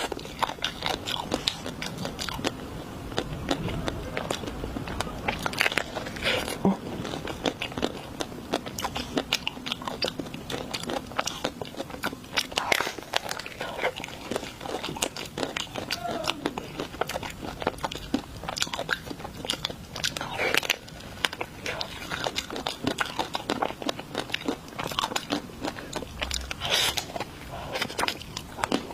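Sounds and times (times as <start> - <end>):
crunchy chewing: 0.0 - 28.9.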